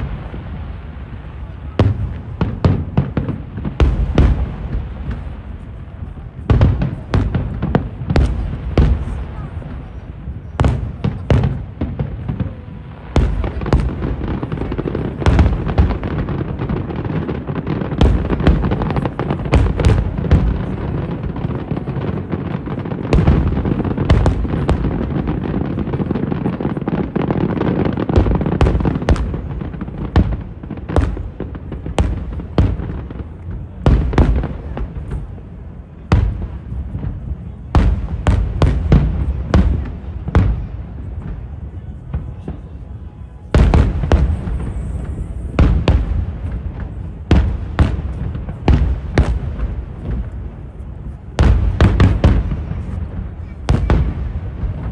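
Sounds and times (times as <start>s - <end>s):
fireworks bursts: 0.0s - 54.9s.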